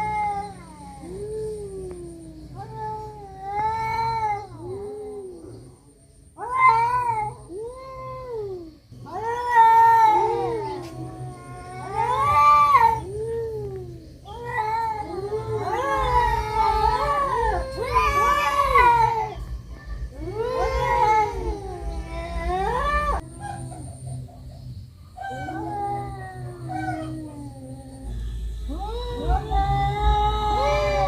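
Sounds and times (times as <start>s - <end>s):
cats yowling in a fight: 0.0s - 24.0s, 25.1s - 31.0s.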